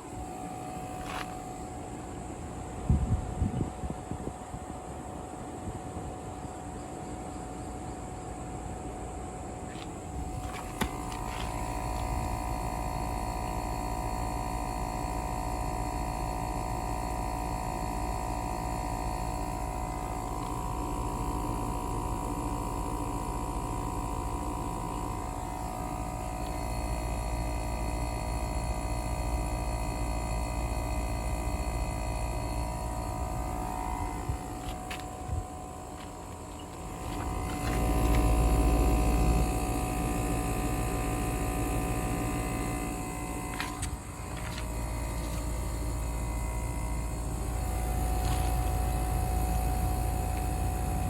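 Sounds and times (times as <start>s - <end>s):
air conditioner hum and whine: 0.0s - 51.0s.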